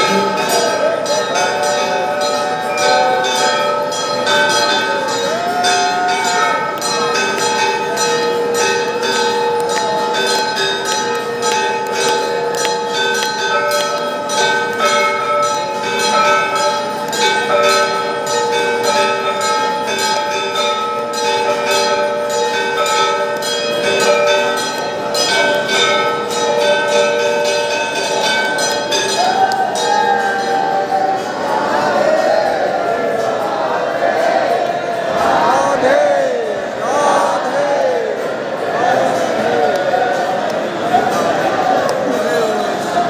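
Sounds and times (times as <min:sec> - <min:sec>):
temple bells ringing: 0:00.0 - 0:43.0.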